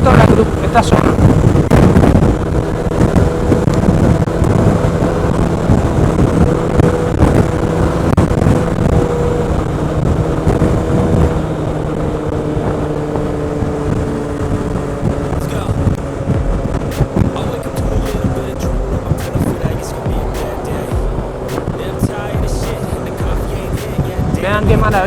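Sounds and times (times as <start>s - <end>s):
scooter engine cruising: 0.0s - 25.0s
wind rumble: 0.0s - 25.0s.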